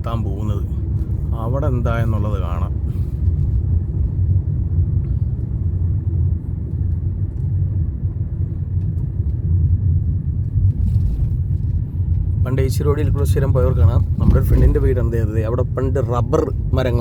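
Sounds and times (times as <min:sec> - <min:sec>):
road vehicle rumble: 0:00.0 - 0:17.0.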